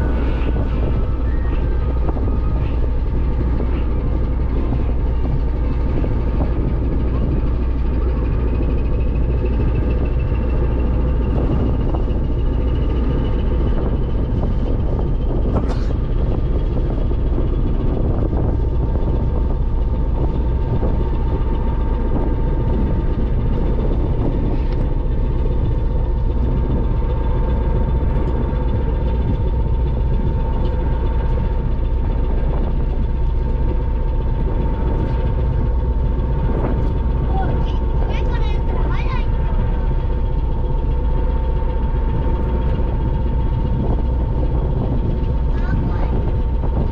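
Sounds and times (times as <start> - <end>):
ferry engine rumble: 0.0 - 46.9.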